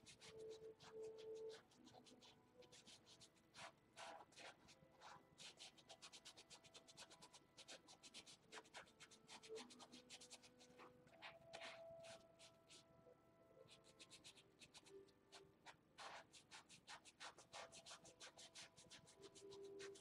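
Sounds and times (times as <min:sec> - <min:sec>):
paintbrush strokes on canvas: 0:00.0 - 0:12.9, 0:13.6 - 0:20.0.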